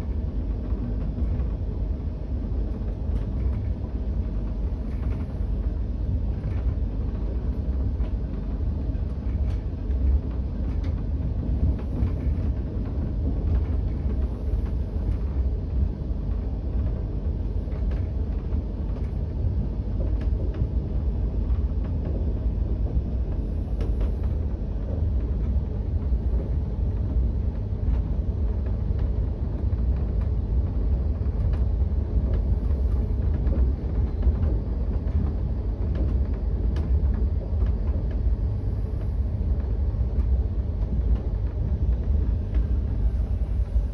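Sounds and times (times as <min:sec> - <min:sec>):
train rumbling over rails: 0:00.0 - 0:43.9.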